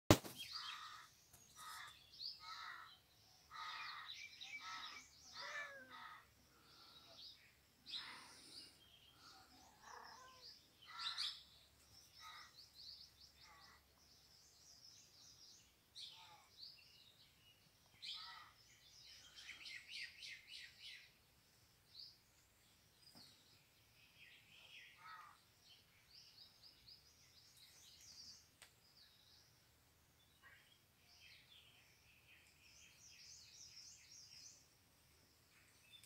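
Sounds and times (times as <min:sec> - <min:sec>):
small birds chirping faintly: 0:00.1 - 0:36.0.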